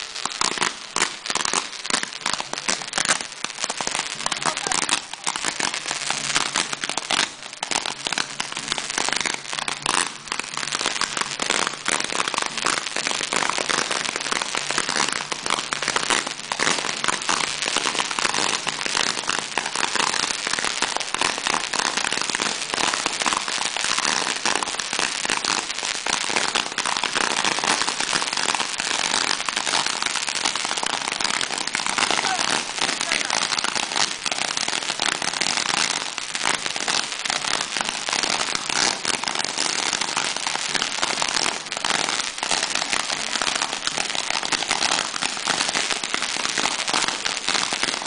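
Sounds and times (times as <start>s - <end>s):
firecrackers crackling: 0.0s - 48.0s.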